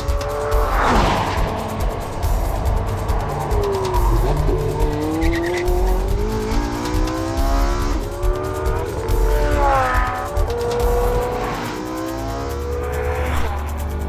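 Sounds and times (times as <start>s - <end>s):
sports car engine accelerating hard: 0.0s - 14.0s.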